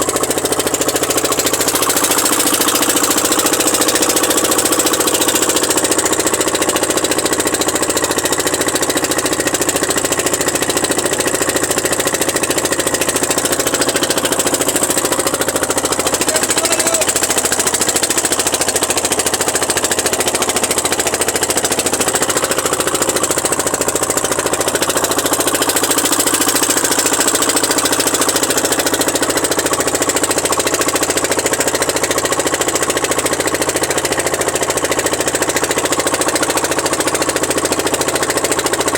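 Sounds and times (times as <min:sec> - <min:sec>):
boat engine knocking steadily: 0:00.0 - 0:38.9.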